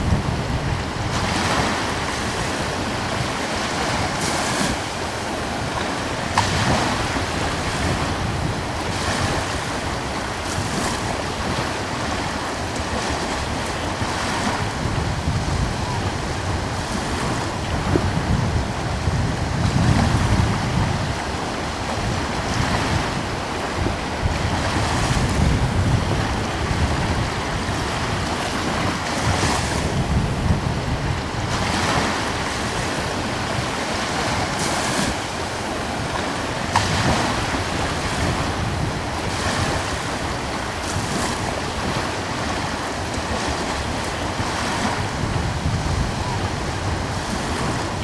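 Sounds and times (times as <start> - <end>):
small waves washing ashore: 0.0 - 48.0
wind buffeting microphone: 0.0 - 48.0.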